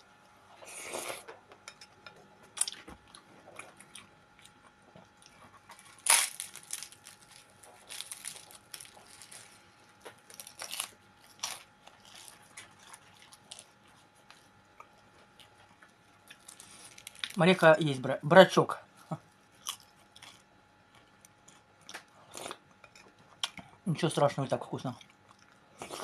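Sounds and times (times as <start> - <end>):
person chewing crunchy flatbread: 0.4 - 1.6, 2.3 - 17.4, 18.9 - 23.8, 24.9 - 26.0.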